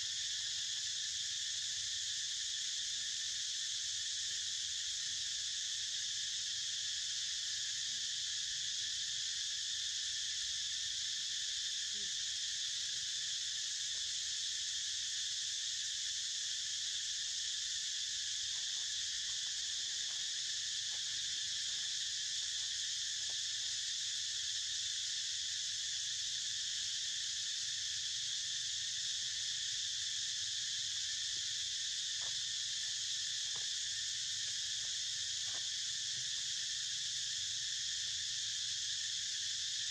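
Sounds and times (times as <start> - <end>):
shrill insect chorus: 0.0 - 39.9.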